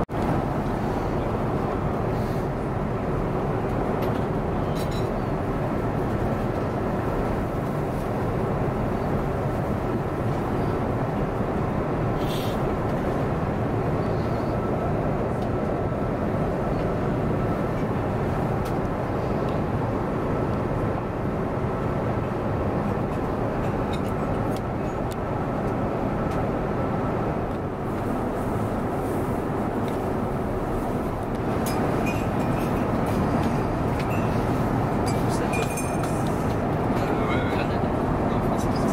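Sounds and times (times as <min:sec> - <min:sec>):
airliner engine drone: 0:00.0 - 0:38.9
rush of air in cabin: 0:00.0 - 0:38.9.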